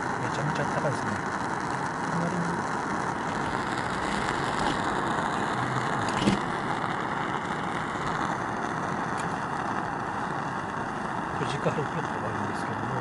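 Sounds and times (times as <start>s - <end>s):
gas burner hissing: 0.0s - 13.0s.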